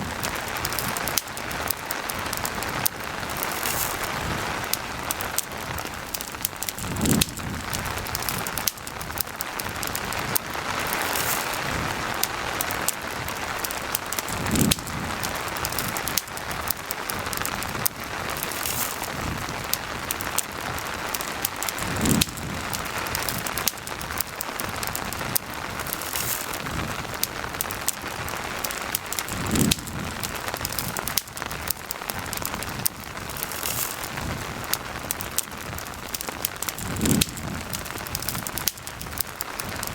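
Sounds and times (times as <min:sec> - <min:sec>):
campfire crackling and popping: 0:00.0 - 0:39.9
steady rain: 0:00.0 - 0:39.9.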